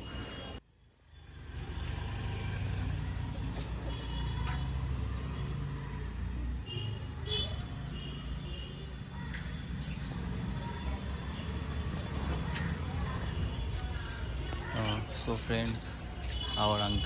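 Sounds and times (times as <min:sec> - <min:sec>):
road traffic rumble: 0:01.2 - 0:17.0.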